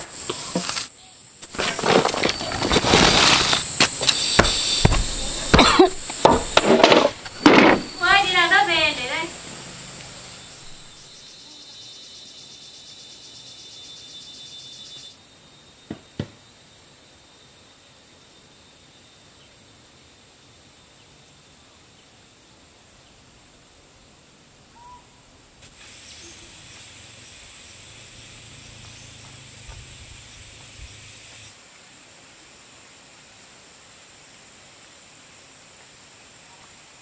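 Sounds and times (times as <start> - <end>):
insects buzzing and chirring: 0.0 - 37.0.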